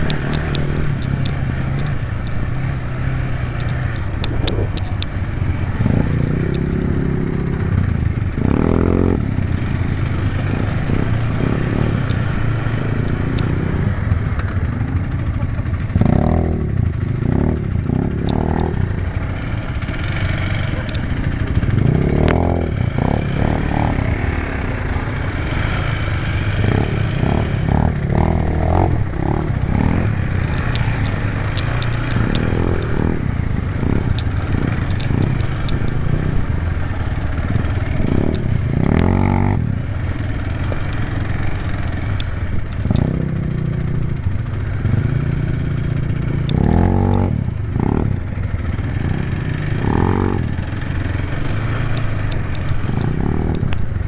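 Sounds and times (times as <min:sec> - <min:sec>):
clicks and clatter: 0:00.0 - 0:09.2, 0:09.8 - 0:54.0
quad bike engine revving: 0:00.0 - 0:54.0.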